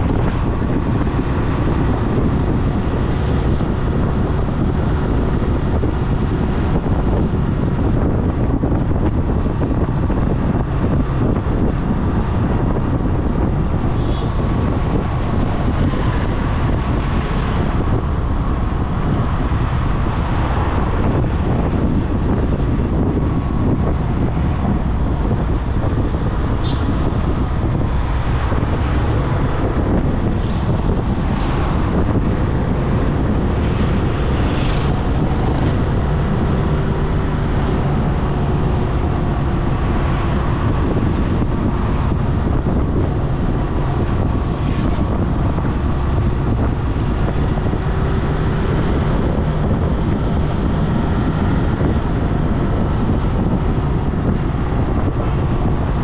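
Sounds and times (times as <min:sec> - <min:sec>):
low engine hum: 0:00.0 - 0:56.0
passing traffic: 0:00.0 - 0:56.0
road and wind rumble: 0:00.0 - 0:56.0.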